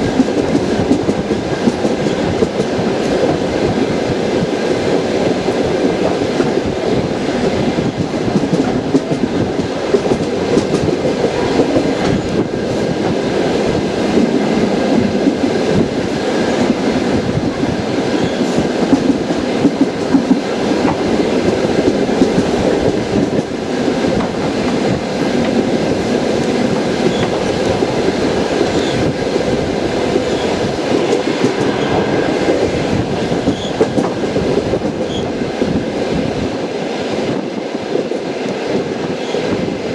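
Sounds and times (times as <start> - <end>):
train wheels clattering: 0.0 - 35.8
train cars rumbling: 0.0 - 39.9.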